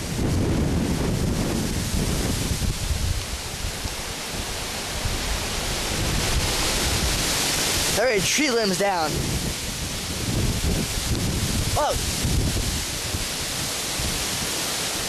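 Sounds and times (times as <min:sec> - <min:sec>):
wind buffeting microphone: 0:00.0 - 0:08.3, 0:08.9 - 0:15.0
strong gusting wind: 0:00.0 - 0:15.0.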